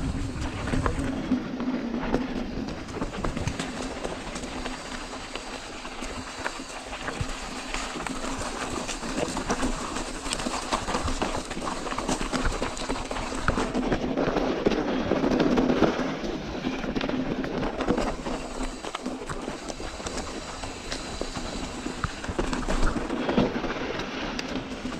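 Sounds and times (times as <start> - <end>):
bike rattling: 0.0 - 24.9.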